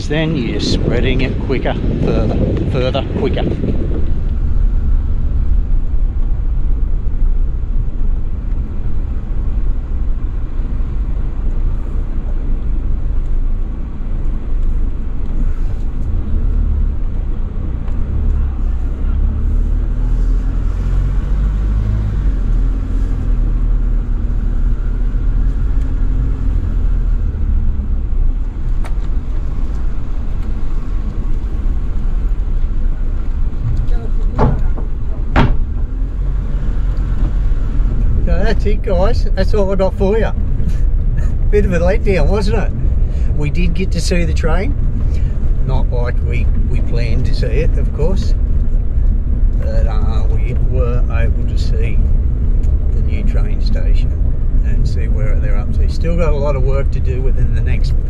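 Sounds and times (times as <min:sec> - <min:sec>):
car driving on dirt road: 0:00.0 - 0:58.0.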